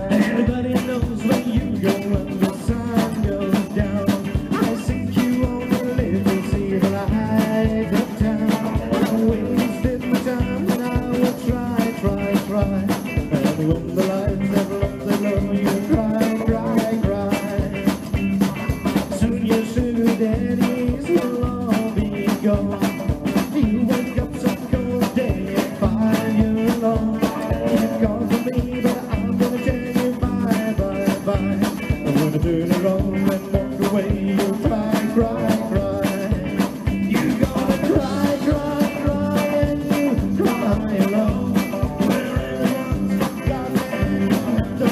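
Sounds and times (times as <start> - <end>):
drum kit: 0.0 - 44.9
electric guitars: 0.0 - 44.9
upright bass: 0.0 - 44.9.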